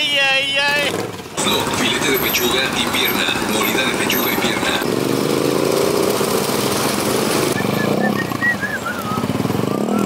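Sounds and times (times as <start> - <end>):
motorcycle engine accelerating: 0.8 - 10.0.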